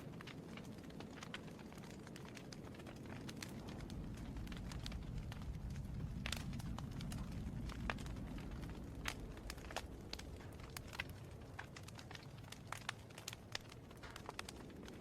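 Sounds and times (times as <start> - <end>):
fire popping and snapping: 0.0 - 15.0
low rumble of burning: 0.0 - 15.0
wood fire crackling: 0.0 - 15.0.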